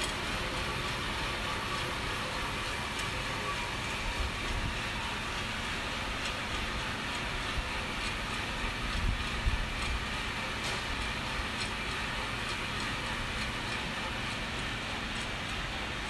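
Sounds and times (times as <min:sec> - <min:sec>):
coffee roaster rushing: 0:00.0 - 0:16.0.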